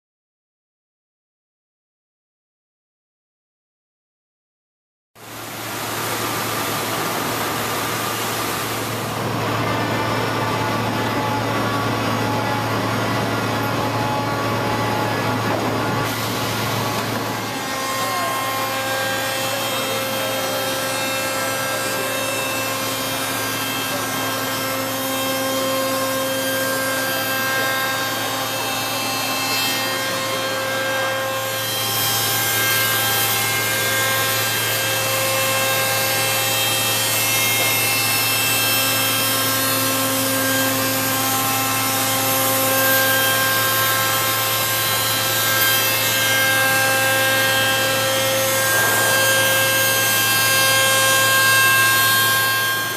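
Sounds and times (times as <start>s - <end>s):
machine hum and whine: 5.2s - 52.9s
circular saw sawing through timber: 5.3s - 52.9s.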